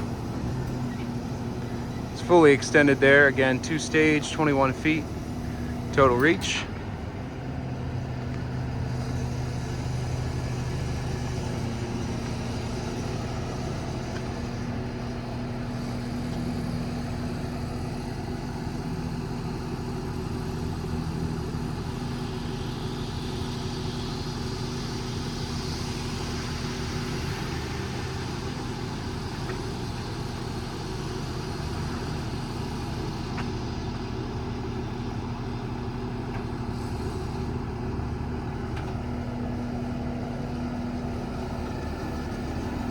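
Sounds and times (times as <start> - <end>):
diesel truck engine humming: 0.0 - 42.9.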